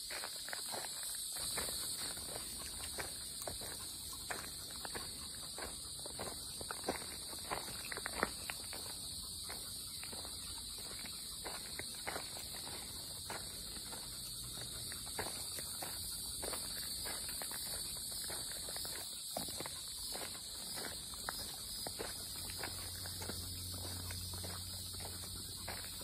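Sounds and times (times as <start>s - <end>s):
footsteps on forest trail: 0.0s - 26.0s
insects droning: 0.0s - 26.0s.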